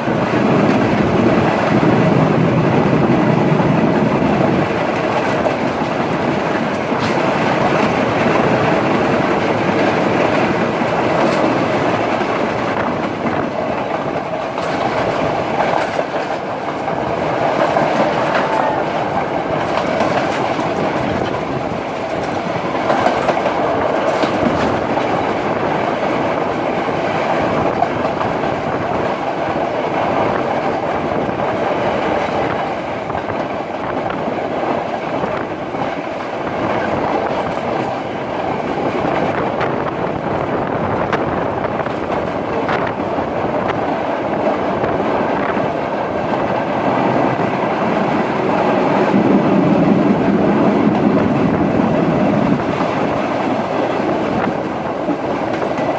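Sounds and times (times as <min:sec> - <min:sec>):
passenger train rumble: 0:00.0 - 0:55.9
wheels clacking over rail joints: 0:00.0 - 0:55.9.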